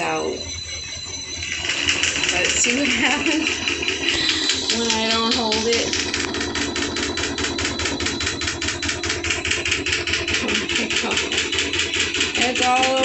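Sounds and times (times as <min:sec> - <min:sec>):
washing machine rattling and knocking: 0:00.0 - 0:13.0.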